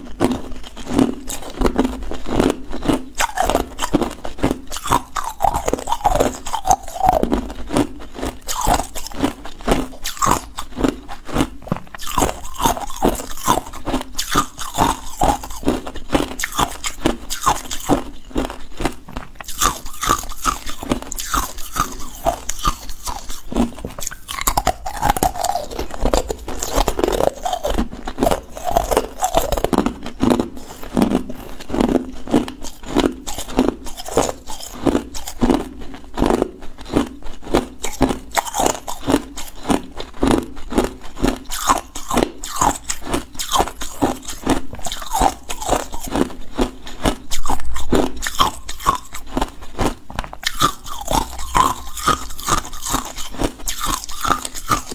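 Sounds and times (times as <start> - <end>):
ice cubes being chewed: 0.0 - 54.9.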